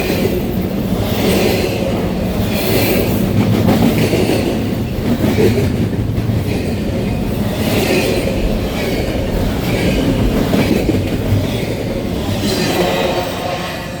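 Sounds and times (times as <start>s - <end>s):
freight train cars rolling: 0.0s - 14.0s.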